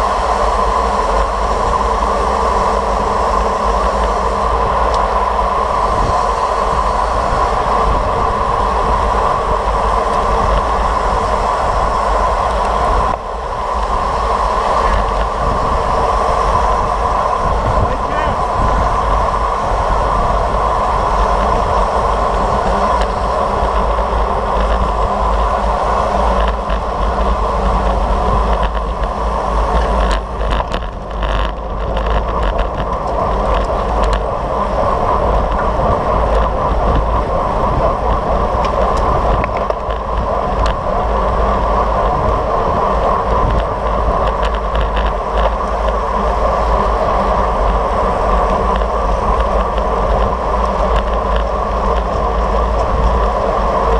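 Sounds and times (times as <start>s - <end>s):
wind and road noise on microphone: 0.0s - 53.9s.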